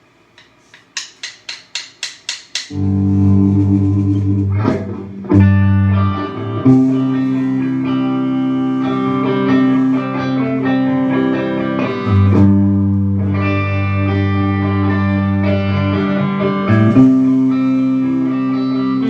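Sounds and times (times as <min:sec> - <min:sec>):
electric guitar and bass chords: 0:02.7 - 0:19.0.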